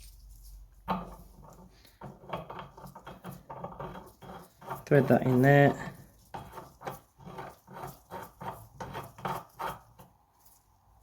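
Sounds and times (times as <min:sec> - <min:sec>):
metal rasping on metal: 0:00.8 - 0:10.2.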